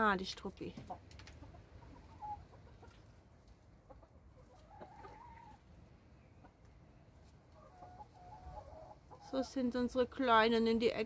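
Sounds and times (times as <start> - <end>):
hens clucking: 0.4 - 11.0.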